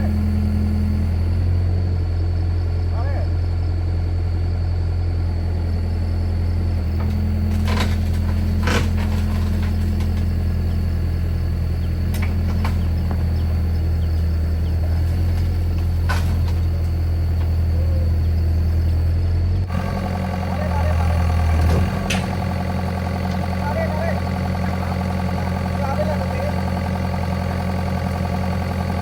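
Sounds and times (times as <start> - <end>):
heavy engine idling: 0.0 - 29.0.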